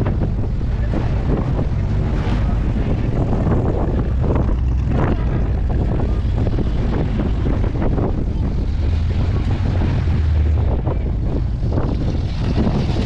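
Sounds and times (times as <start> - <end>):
car engines rumbling: 0.0 - 13.0
wind buffeting microphone: 0.0 - 13.0.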